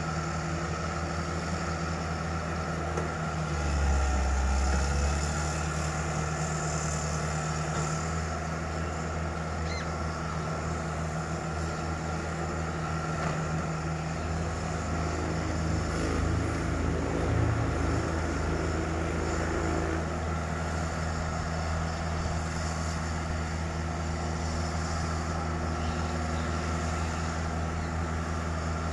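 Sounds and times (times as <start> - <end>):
excavator diesel engines running: 0.0 - 28.9.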